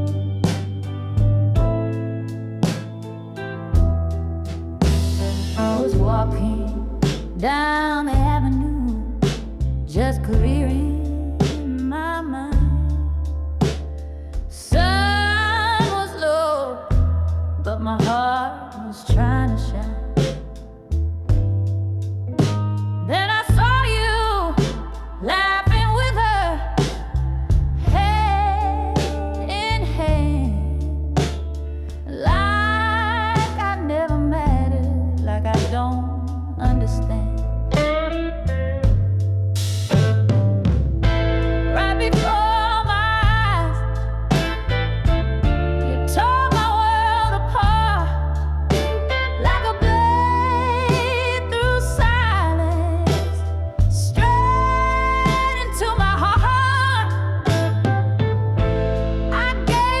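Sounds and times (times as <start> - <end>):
slow blues ballad music: 0.0 - 60.0
sustained bass notes: 0.0 - 60.0.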